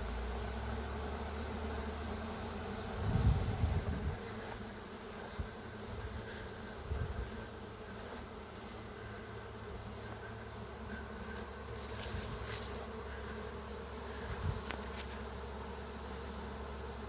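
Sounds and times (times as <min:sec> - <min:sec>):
bee swarm humming: 0:00.0 - 0:17.0.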